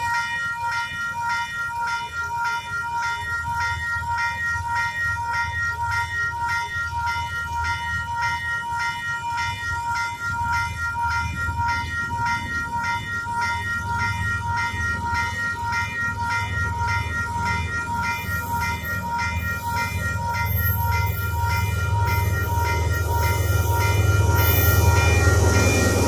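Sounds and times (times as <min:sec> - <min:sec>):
diesel locomotive rumbling: 0:00.0 - 0:26.0
level crossing bells ringing: 0:00.0 - 0:26.0.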